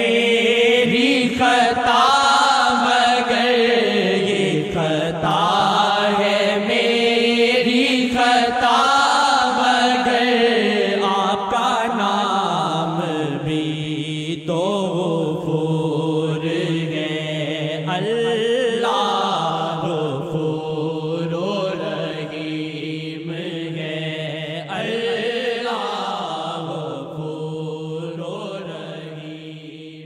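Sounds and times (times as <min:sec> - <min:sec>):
person chanting a devotional song: 0:00.0 - 0:30.0.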